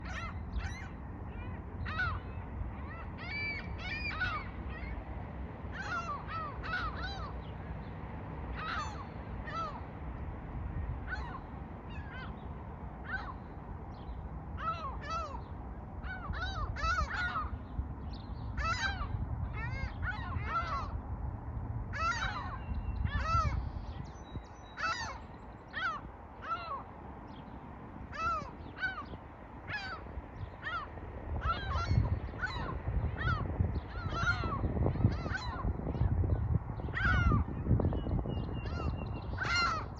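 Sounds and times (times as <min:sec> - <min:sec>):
flock of birds calling: 0:00.0 - 0:05.0, 0:05.7 - 0:07.6, 0:08.5 - 0:09.8, 0:11.0 - 0:12.4, 0:13.0 - 0:17.7, 0:18.6 - 0:21.0, 0:22.0 - 0:27.4, 0:28.1 - 0:36.2, 0:36.8 - 0:39.9
steady low rumble: 0:00.0 - 0:39.9.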